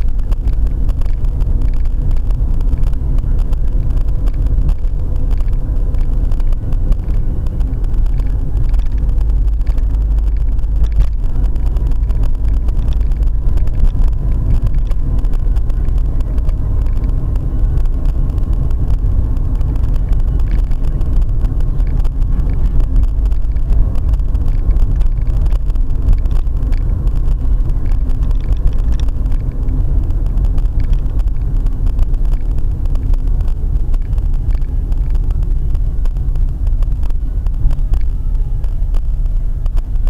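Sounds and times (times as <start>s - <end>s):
car engine and road rumble: 0.0s - 40.0s
faint ticks: 0.0s - 40.0s.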